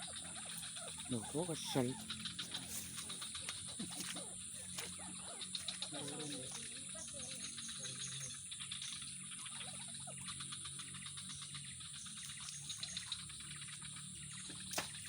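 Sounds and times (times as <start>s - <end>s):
crickets chirping: 0.0s - 15.0s
low constant hum: 0.0s - 15.0s.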